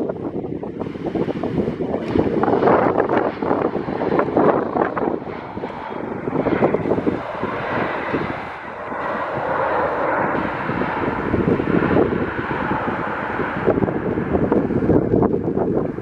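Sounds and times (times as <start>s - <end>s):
airliner engines running: 0.0s - 16.0s
wind buffeting microphone: 0.0s - 16.0s.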